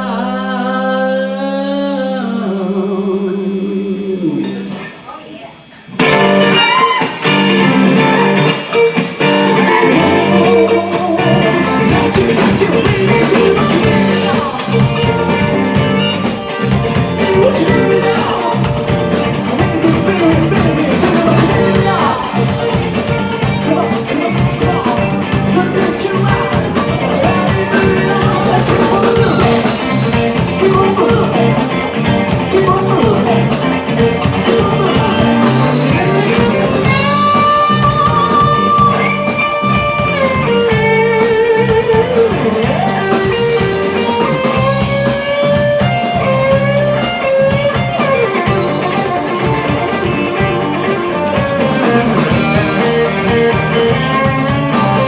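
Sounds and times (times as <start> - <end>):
electric guitar bent notes: 5.7 - 55.0
live rock band playing: 5.8 - 55.0.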